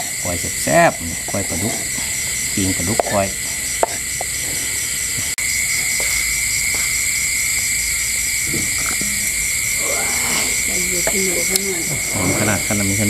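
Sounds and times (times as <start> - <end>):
frogs and insects chorus: 0.0 - 13.0.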